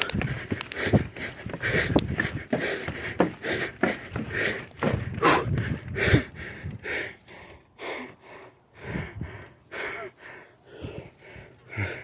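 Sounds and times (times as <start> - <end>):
heavy rhythmic breathing: 0.0 - 12.0.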